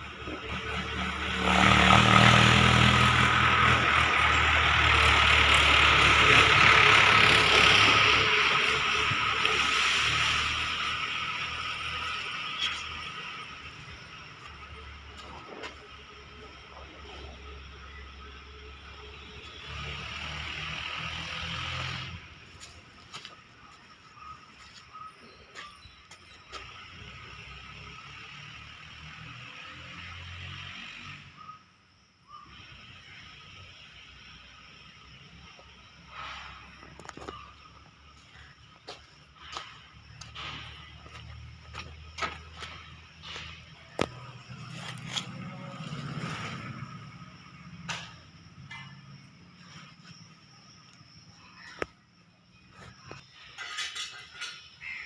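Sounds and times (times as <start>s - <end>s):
vehicle engine running: 0.0s - 30.0s, 34.5s - 53.5s.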